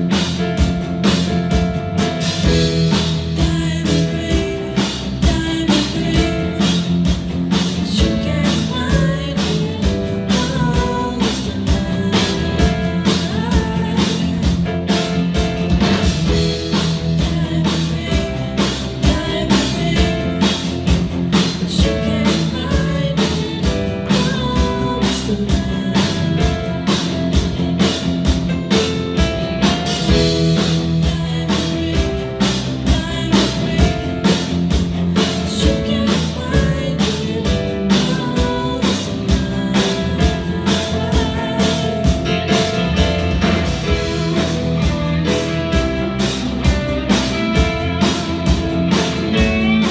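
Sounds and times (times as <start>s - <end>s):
drum kit beat: 0.0s - 49.9s
rock music: 0.0s - 49.9s.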